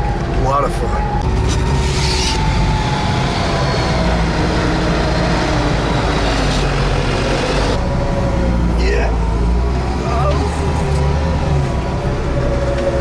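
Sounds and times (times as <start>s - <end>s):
snow vehicle engine rumble: 0.0s - 13.0s.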